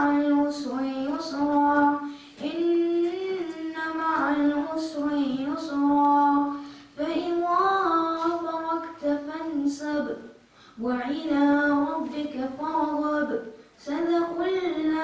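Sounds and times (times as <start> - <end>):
boy chanting recitation into microphone: 0.0 - 15.0.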